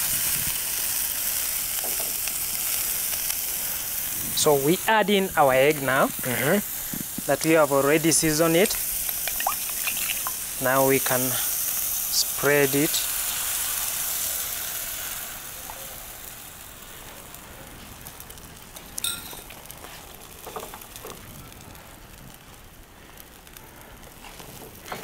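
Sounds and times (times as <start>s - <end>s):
egg sizzling in frying pan: 0.0s - 25.0s.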